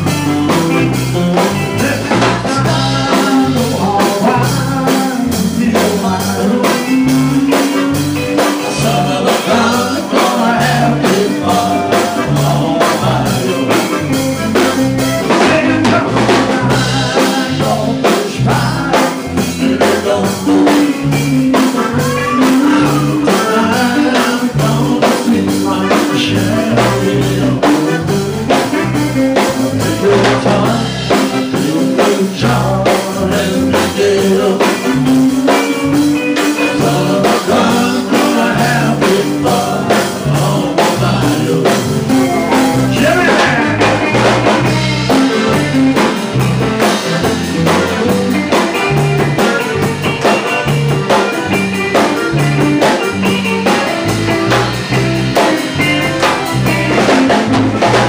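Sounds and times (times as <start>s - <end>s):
drum beat: 0.0s - 58.0s
guitar: 0.0s - 58.0s
man singing: 0.1s - 58.0s.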